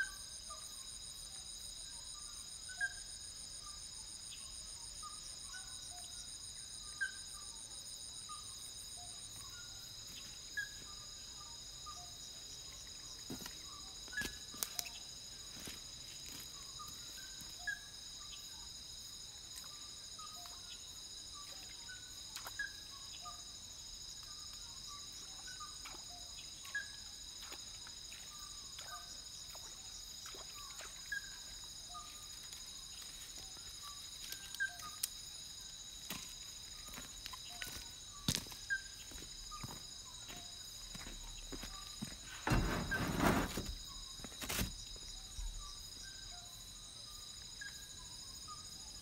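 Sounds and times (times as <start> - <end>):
crickets shrilling: 0.0 - 49.0.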